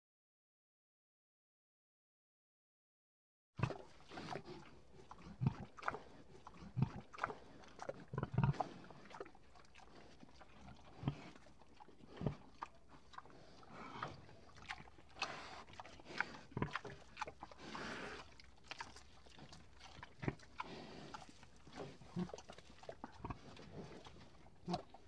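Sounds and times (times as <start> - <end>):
cow chewing watermelon: 3.6 - 25.0.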